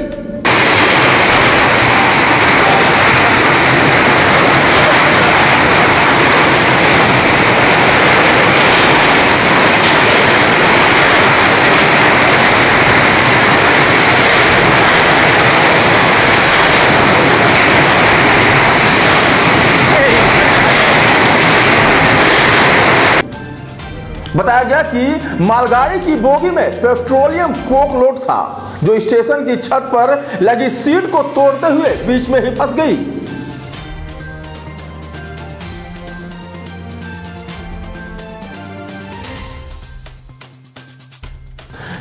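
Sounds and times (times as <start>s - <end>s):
train rolling past: 0.4s - 27.7s, 30.6s - 40.1s.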